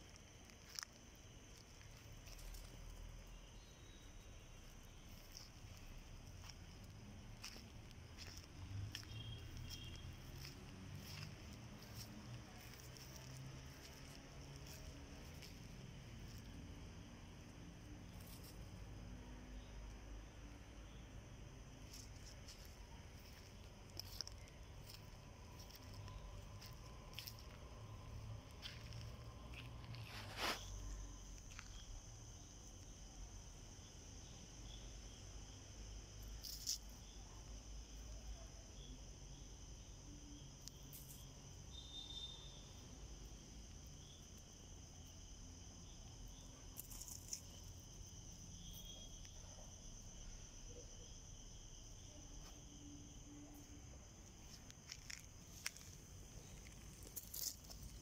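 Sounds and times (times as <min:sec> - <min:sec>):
night insects chirring: 0:00.0 - 0:58.0.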